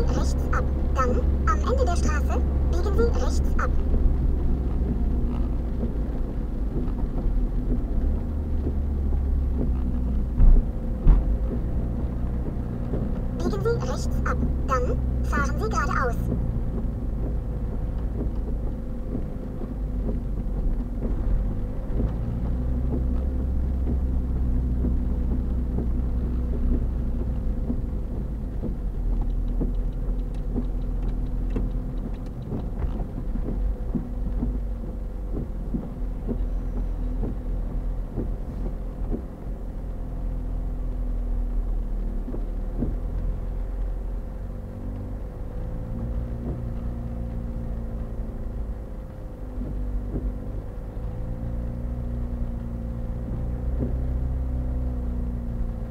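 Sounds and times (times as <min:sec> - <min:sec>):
engine low rumble: 0:00.0 - 0:55.9.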